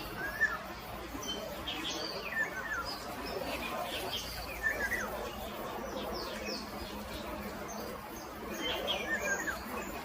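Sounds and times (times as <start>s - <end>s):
small birds chirping: 0.0s - 10.0s
steady background noise: 0.0s - 10.0s.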